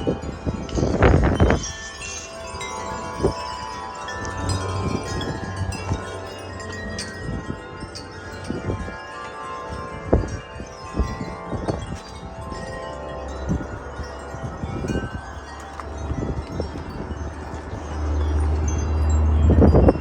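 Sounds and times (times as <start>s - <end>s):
large wind chimes ringing: 0.0s - 20.0s
wind buffeting microphone: 0.0s - 20.0s.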